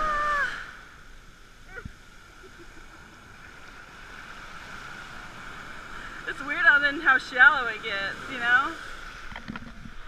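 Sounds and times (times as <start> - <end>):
ocean surf washing: 0.0 - 10.0.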